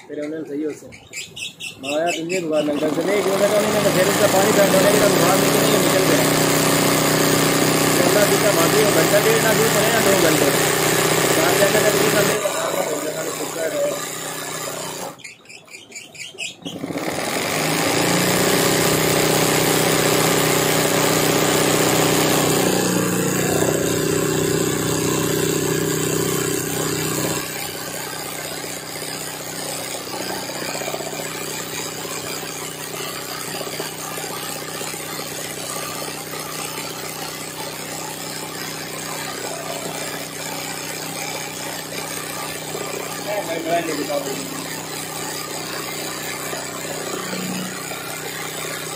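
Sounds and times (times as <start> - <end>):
electric sewing machine stitching: 1.8 - 48.9.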